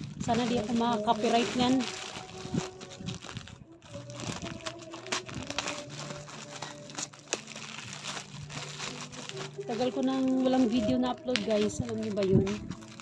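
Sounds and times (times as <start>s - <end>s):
faint music: 0.0s - 13.0s
plastic bag crinkling: 0.0s - 13.0s.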